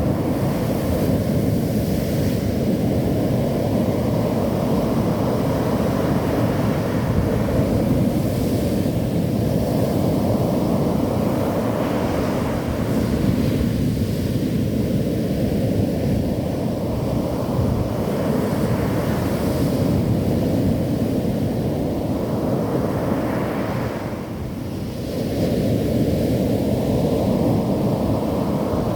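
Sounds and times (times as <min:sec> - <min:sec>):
ocean surf breaking on beach: 0:00.0 - 0:28.9.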